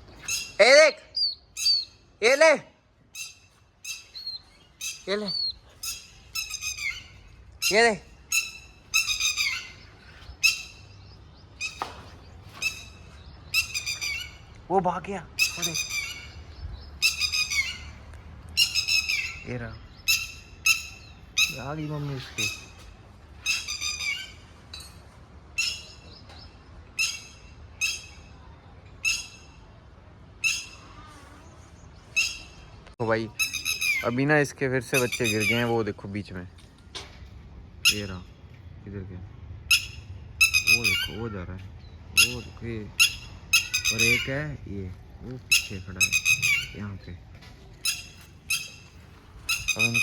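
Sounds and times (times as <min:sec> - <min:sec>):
lapwing calling: 0:00.0 - 0:24.7, 0:25.4 - 0:36.0, 0:37.7 - 0:38.5, 0:39.6 - 0:50.0
bird chirping: 0:00.1 - 0:02.2, 0:03.1 - 0:29.8, 0:30.4 - 0:36.0, 0:39.6 - 0:50.0.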